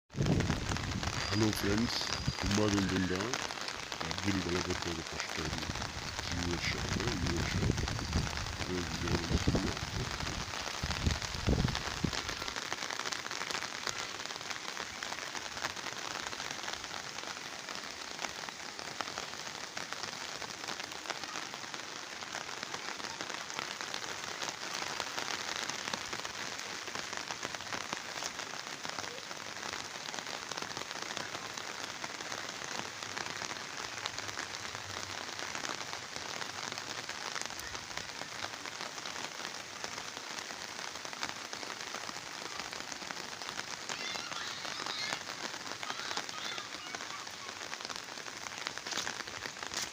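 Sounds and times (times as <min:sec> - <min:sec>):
heavy rain falling: 0:00.1 - 0:49.9.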